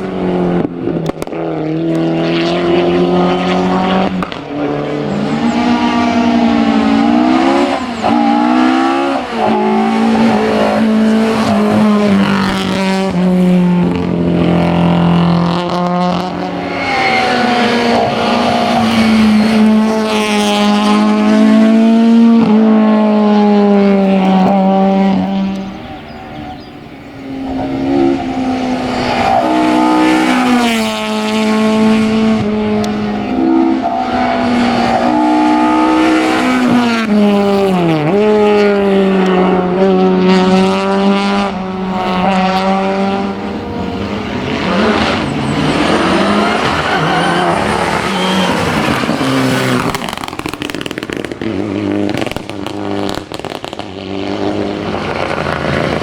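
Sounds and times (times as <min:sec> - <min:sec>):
race car engine revving: 0:00.0 - 0:56.0
rally car engine revving: 0:00.0 - 0:56.0.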